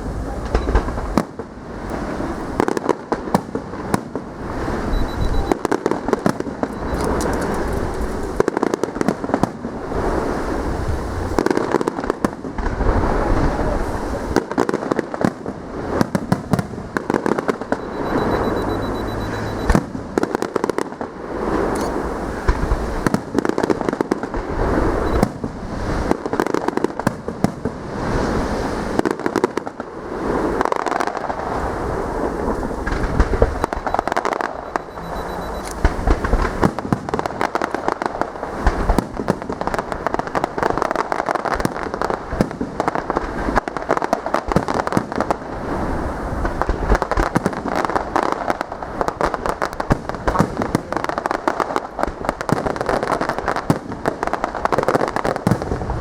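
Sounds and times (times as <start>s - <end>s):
fireworks bangs and crackling bursts: 0.0s - 56.0s.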